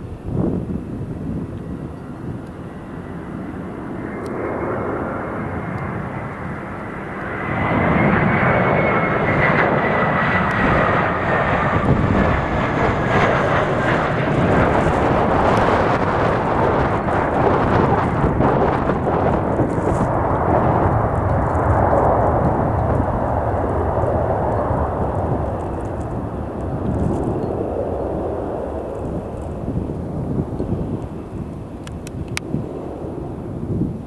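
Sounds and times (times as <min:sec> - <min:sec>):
jet engines spooling up: 0:00.0 - 0:34.0.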